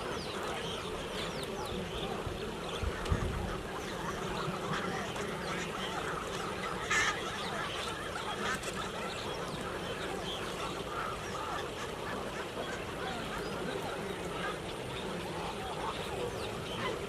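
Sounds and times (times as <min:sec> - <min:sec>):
waterbird colony calling: 0:00.0 - 0:17.0.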